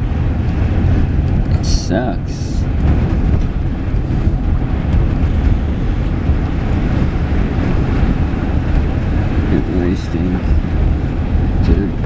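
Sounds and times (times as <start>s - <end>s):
car interior rumble: 0.0s - 12.0s
wind buffeting microphone: 0.0s - 12.0s.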